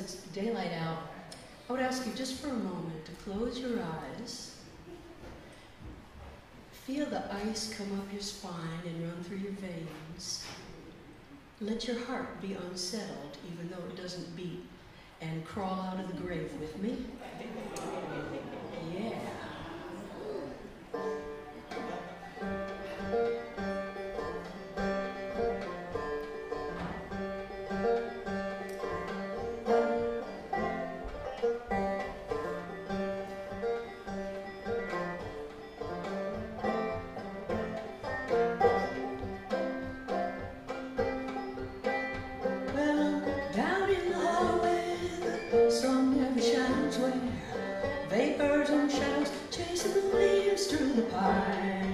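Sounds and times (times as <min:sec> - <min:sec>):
banjo picking: 0:00.0 - 0:05.8, 0:15.4 - 0:51.9.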